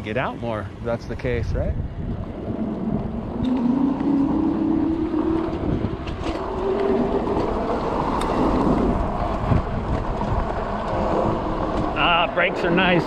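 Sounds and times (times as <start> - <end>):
wind and road noise: 0.0 - 13.0
electric motor whining: 2.4 - 13.0.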